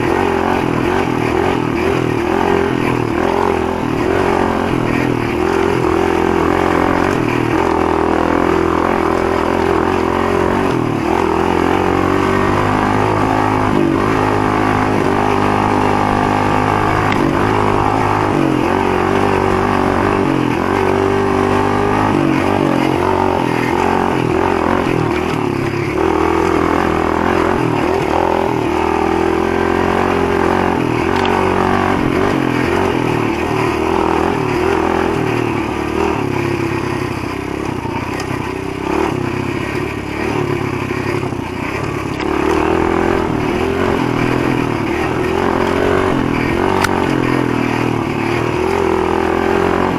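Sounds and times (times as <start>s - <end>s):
pit bike engine revving: 0.0s - 49.9s.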